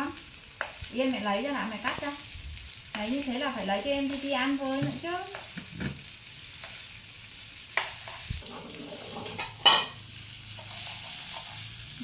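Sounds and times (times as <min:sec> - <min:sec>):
noodles sizzling in oil: 0:00.0 - 0:12.0.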